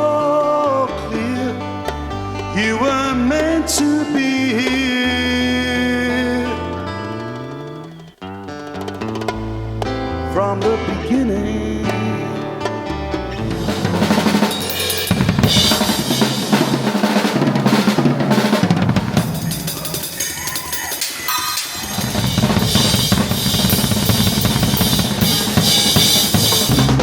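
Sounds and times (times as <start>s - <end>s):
drum-heavy rock music: 0.0s - 27.0s.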